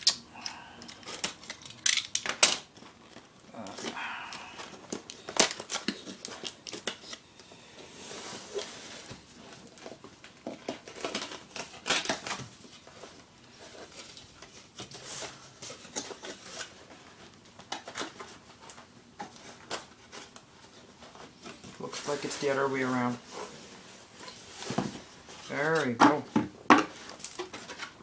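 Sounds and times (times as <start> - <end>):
cardboard and plastic rustling: 0.6 - 28.0.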